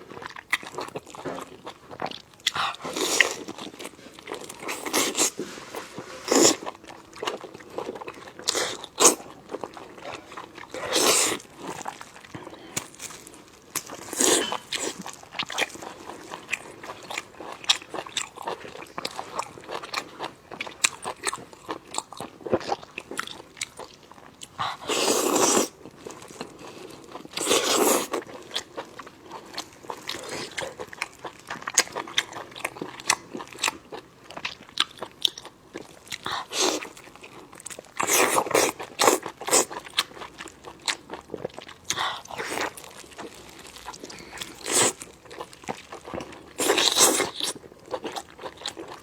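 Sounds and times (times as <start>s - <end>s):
person chewing wetly: 0.0s - 49.0s.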